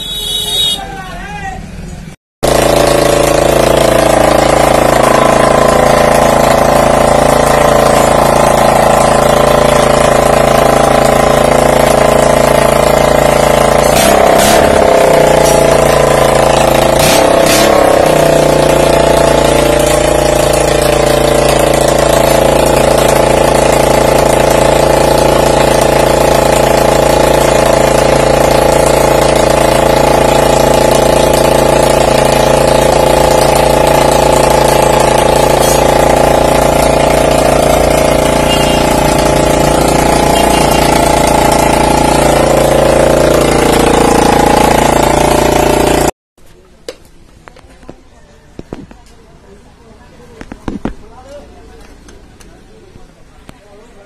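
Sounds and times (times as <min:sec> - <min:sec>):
motorcycle engine running: 0:00.0 - 0:52.7.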